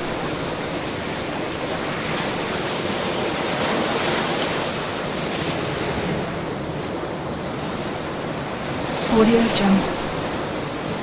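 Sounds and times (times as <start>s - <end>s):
ocean surf washing on shore: 0.0s - 11.0s.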